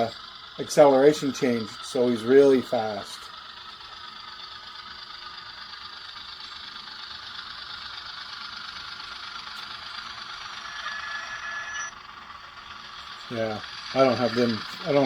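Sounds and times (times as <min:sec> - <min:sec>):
diesel engine sound from small speaker: 0:00.0 - 0:15.0
model train wheels rattling on track: 0:00.0 - 0:15.0
thin high steady tone: 0:00.0 - 0:15.0.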